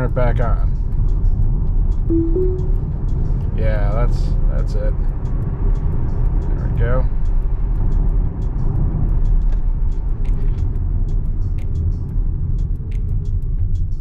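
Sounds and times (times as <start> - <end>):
road and tyre noise on wet road: 0.0 - 2.1, 2.8 - 14.0
light ticks: 0.1 - 14.0.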